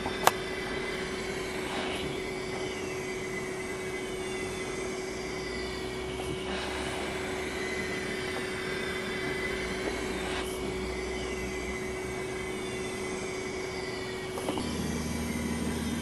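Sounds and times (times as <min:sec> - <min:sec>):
air hissing: 0:00.0 - 0:16.0
steady engine hum: 0:00.0 - 0:16.0.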